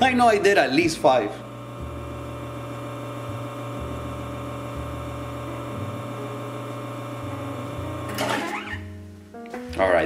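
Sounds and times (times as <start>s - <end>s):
espresso machine pump humming: 0.0s - 8.8s.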